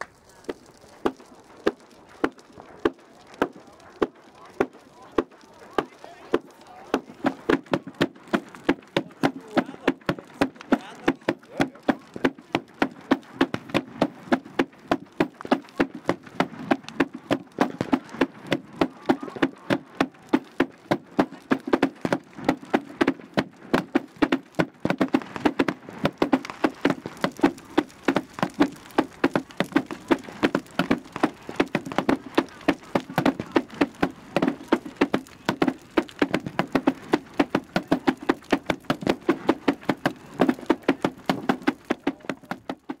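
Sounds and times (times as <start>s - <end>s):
wooden flails beating on plank: 0.0s - 43.0s.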